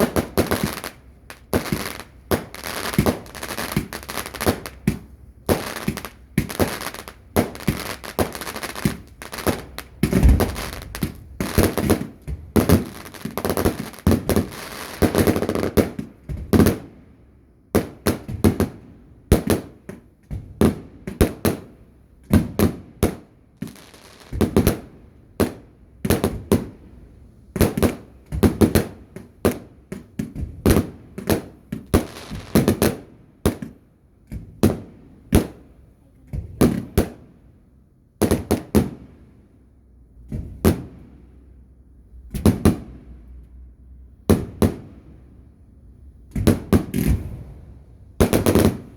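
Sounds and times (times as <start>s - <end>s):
fireworks bangs: 0.0s - 16.9s, 17.8s - 26.8s, 27.6s - 37.3s, 40.3s - 41.1s, 42.3s - 43.0s, 46.3s - 48.9s.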